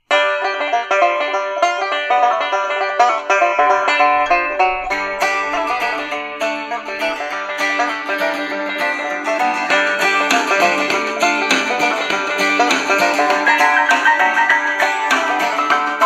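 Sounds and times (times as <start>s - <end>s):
plucked-string music on radio speaker: 0.0s - 16.0s.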